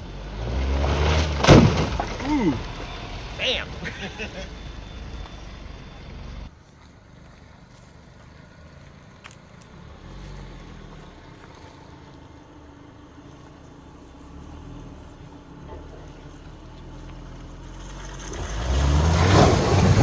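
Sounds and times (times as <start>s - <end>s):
engine running low drone: 0.0s - 20.0s.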